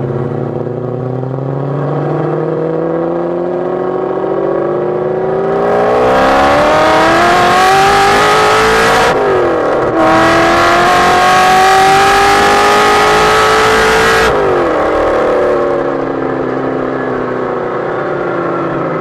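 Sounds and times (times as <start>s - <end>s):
car engine exhaust howl: 0.0s - 19.0s.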